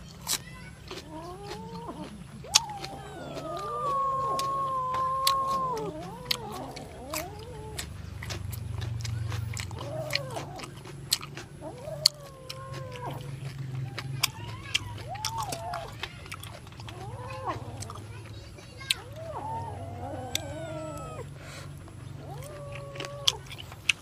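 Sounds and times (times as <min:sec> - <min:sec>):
person chewing crisp food: 0:00.0 - 0:24.0
animal crying in wavering calls: 0:00.9 - 0:08.2, 0:09.2 - 0:23.7.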